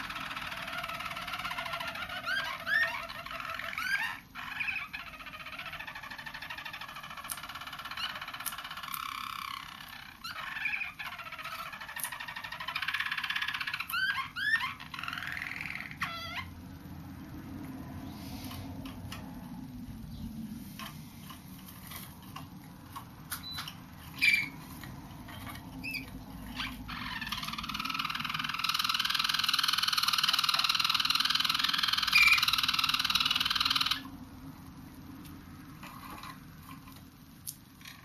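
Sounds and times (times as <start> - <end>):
canaries singing: 0.0 - 38.0.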